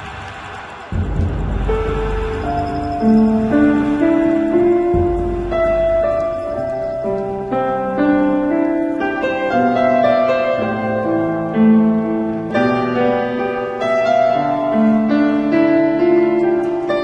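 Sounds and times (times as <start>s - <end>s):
piano music: 0.9s - 17.0s.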